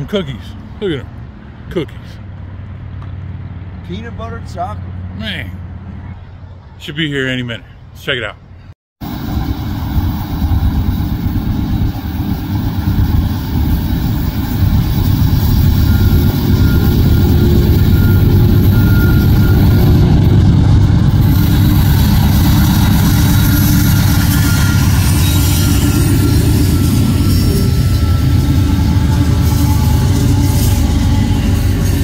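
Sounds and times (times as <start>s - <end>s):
diesel locomotives passing: 0.0s - 32.0s.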